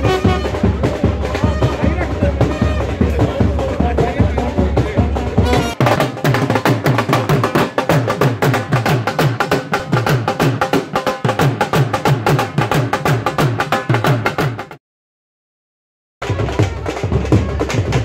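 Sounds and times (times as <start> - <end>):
dhol drumming: 0.0 - 14.8, 16.2 - 18.0.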